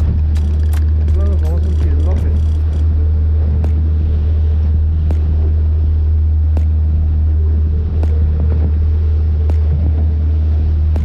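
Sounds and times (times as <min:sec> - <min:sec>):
outboard motor droning: 0:00.0 - 0:11.0
wind and water noise: 0:00.0 - 0:11.0.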